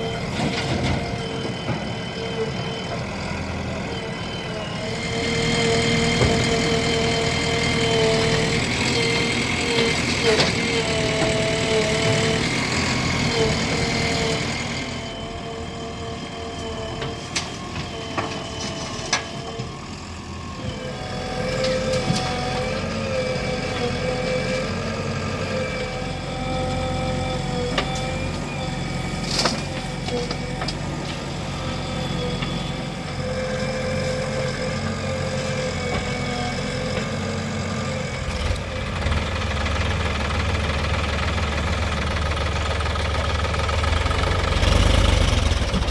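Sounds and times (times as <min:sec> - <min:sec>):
wavering whine: 0:00.0 - 0:38.8
diesel engines running: 0:00.0 - 0:45.9.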